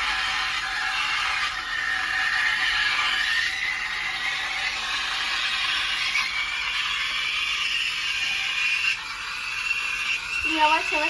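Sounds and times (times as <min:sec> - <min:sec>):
steam wand hissing into milk: 0:00.0 - 0:11.0.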